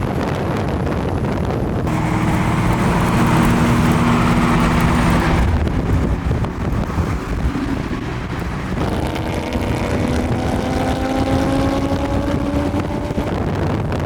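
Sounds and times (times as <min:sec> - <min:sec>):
road noise: 0:01.5 - 0:14.0
car engine hum: 0:01.9 - 0:14.0.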